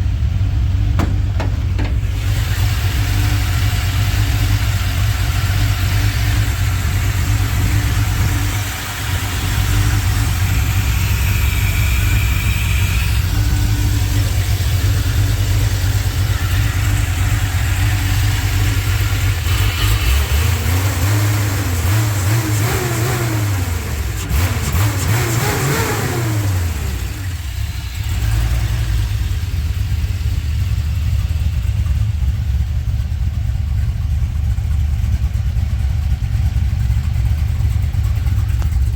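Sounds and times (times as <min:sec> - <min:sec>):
car engine running and revving: 0:00.0 - 0:38.9.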